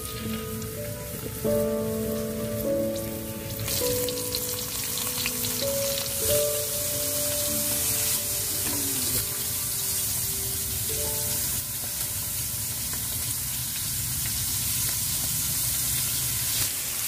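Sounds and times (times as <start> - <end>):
food deep-frying in hot oil: 0.0 - 17.0.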